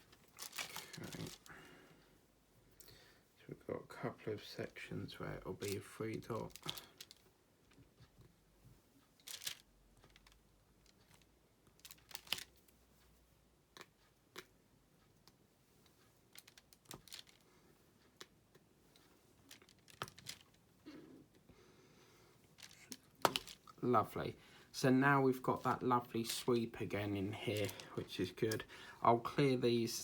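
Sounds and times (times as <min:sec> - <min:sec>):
faint clicks and crinkly taps: 0:00.0 - 0:30.0.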